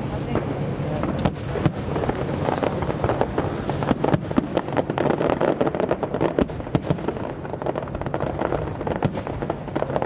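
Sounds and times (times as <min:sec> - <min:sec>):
fireworks crackling pops: 0:00.0 - 0:10.0.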